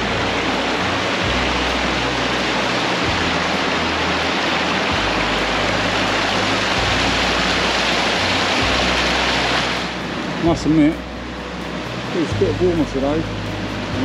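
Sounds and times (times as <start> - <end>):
rushing water of a stream: 0.0 - 14.0.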